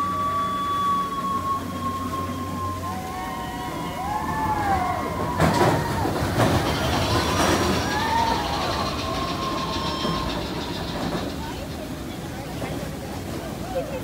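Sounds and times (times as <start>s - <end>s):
riders calling out: 0.0s - 11.8s
roller coaster cars rattling: 0.0s - 14.0s.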